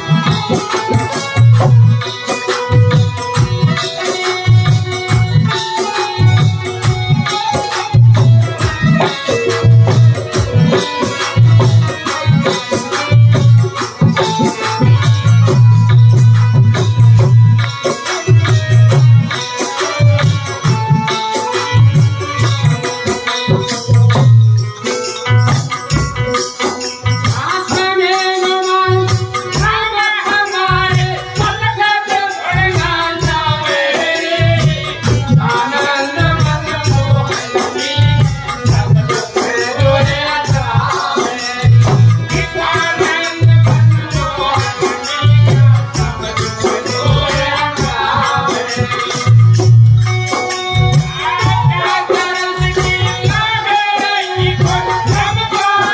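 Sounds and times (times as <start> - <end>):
man singing: 0.0 - 16.9, 27.1 - 49.6, 50.4 - 55.9
shaker percussion: 0.0 - 55.9
steady drum beat: 0.0 - 55.9.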